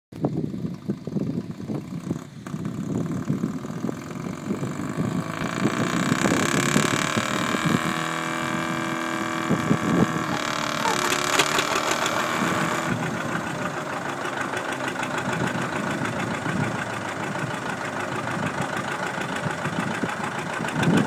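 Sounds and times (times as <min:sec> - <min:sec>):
small gasoline engine running: 0:00.3 - 0:21.0.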